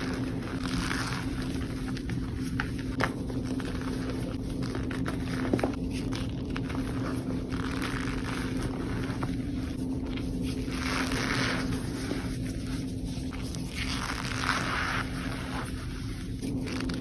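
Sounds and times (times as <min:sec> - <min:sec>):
chalk crunching by hand: 0:00.0 - 0:17.0
steady low hum: 0:00.0 - 0:17.0.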